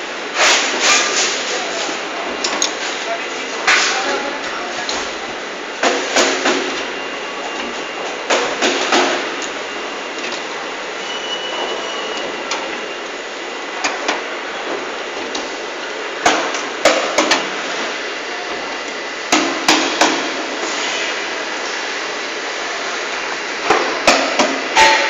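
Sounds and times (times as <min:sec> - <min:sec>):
factory floor hum: 0:00.0 - 0:25.0.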